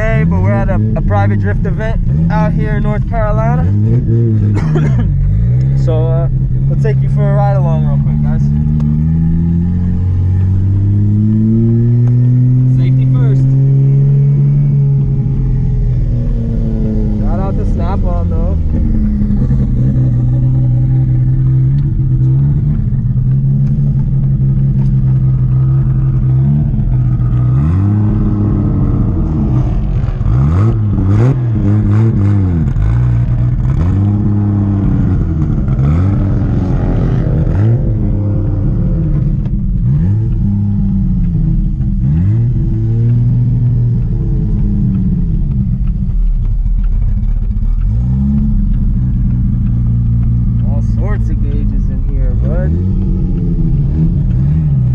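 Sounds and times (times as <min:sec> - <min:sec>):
car engine revving: 0:00.0 - 0:54.9
exhaust cracks: 0:00.0 - 0:54.9.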